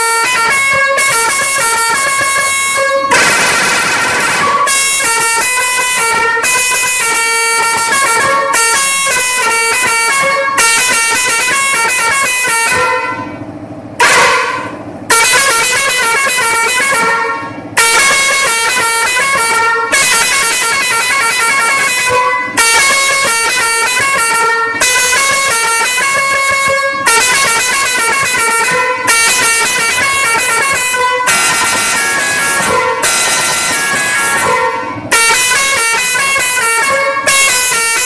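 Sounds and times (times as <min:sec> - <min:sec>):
musical air horn playing tune: 0:00.0 - 0:13.4, 0:14.0 - 0:38.0.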